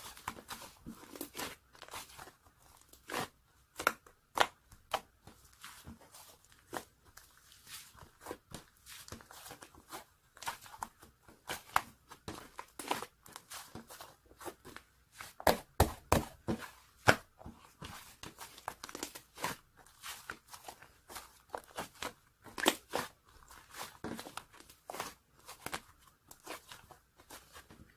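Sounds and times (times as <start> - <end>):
slime crackling and squishing: 0.0 - 27.9.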